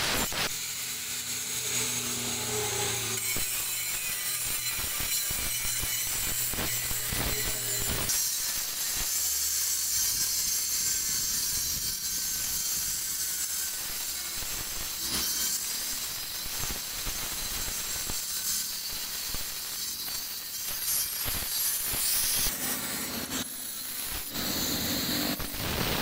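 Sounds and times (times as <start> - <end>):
angle grinder grinding stone: 0.0 - 26.0.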